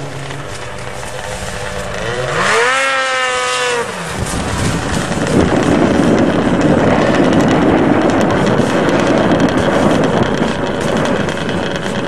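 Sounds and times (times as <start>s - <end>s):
rough rushing noise: 0.0s - 12.0s
snowmobile engine revving: 0.0s - 12.0s.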